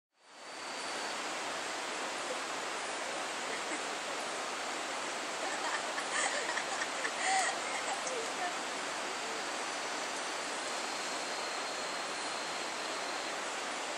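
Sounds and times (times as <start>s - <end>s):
steady rushing outdoor noise: 0.2s - 13.9s.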